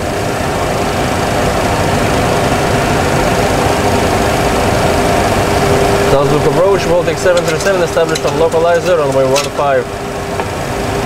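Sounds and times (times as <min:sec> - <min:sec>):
jet engines and airflow hum: 0:00.0 - 0:11.0.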